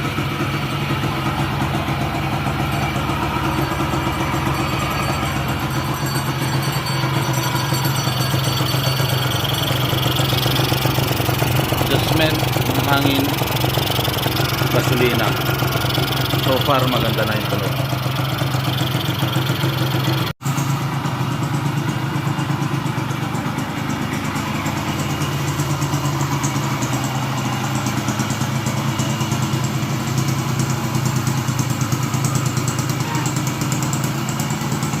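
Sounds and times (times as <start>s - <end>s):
two-stroke engine idling: 0.0s - 35.0s.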